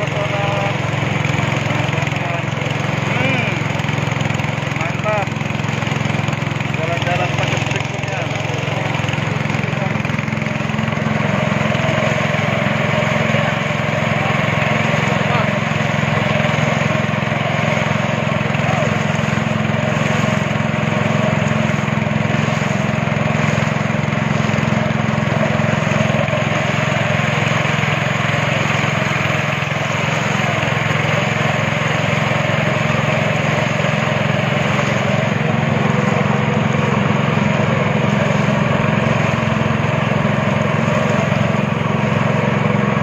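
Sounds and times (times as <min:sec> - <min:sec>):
speedboat engine running: 0:00.0 - 0:43.0
water rushing: 0:00.0 - 0:43.0.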